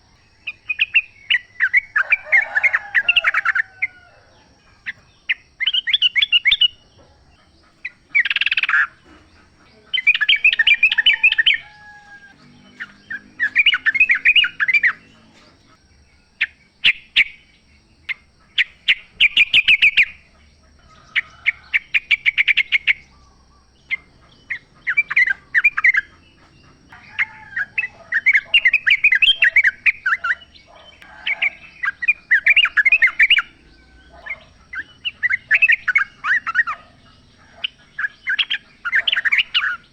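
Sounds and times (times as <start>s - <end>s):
bird singing bubbly chatter: 0.0s - 39.9s.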